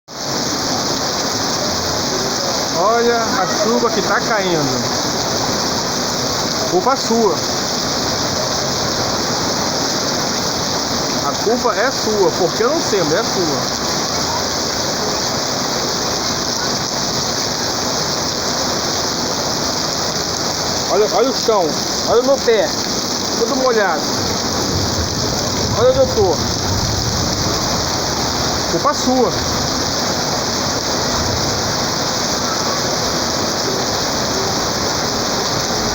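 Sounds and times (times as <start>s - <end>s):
heavy rain splashing: 0.1s - 35.9s.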